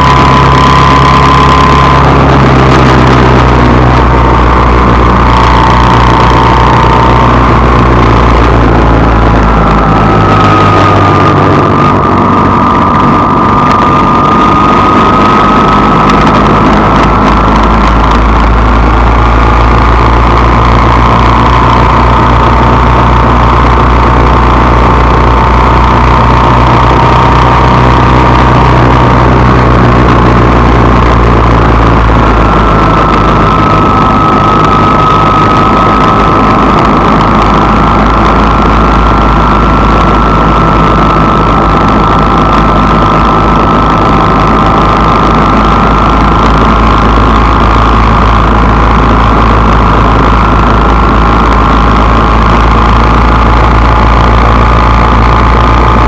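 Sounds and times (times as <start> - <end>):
high whine: 0.0 - 56.0
vehicle engine drone: 0.0 - 56.0.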